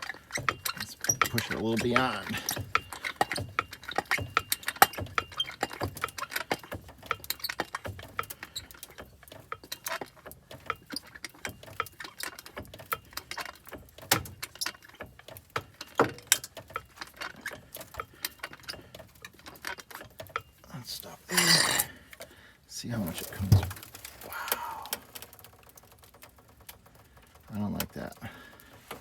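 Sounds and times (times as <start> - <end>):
hydraulic hand pump clicking and squeaking: 0.0 - 29.0.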